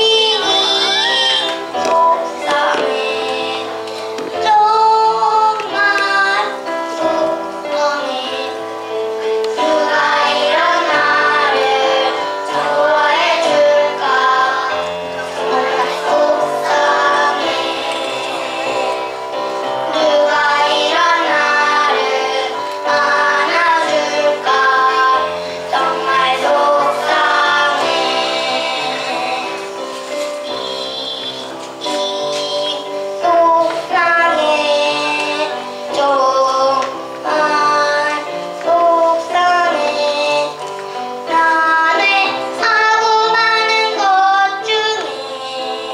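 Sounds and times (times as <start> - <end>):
boy singing into a microphone: 0.0 - 19.2, 19.8 - 45.9
instrumental accompaniment: 0.0 - 45.9.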